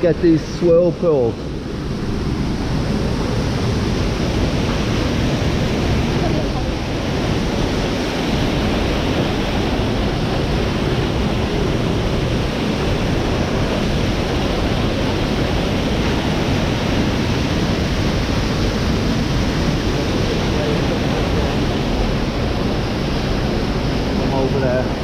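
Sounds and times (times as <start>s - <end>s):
river water rushing through gorge: 0.0s - 25.0s.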